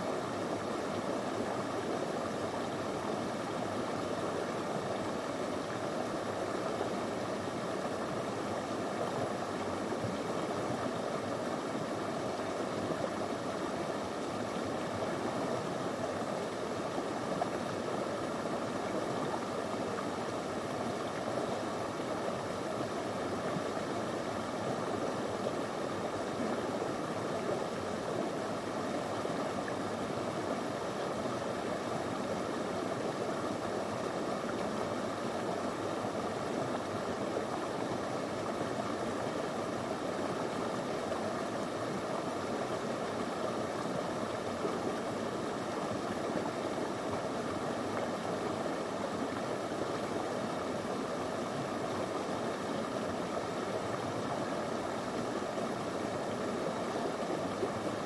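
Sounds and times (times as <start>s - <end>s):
stream flowing over stones: 0.1s - 58.0s.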